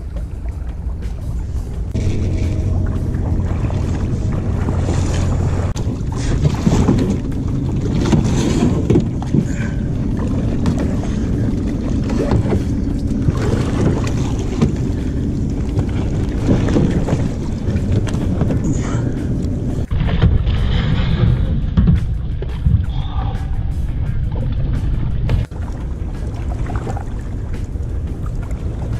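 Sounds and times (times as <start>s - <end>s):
river water: 0.0s - 28.9s
wind rumbling on microphone: 0.0s - 28.9s.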